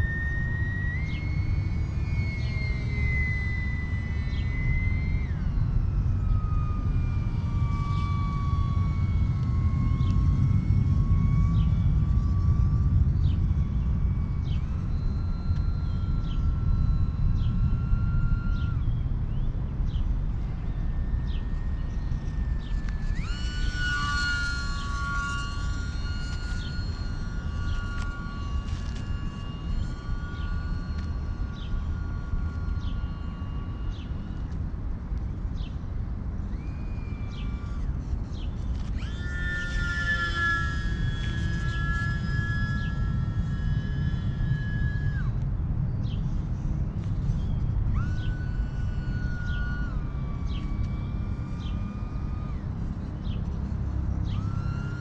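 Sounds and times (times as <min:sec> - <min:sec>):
model plane motor whine: 0:00.0 - 0:55.0
wind rumble on microphone: 0:00.0 - 0:55.0.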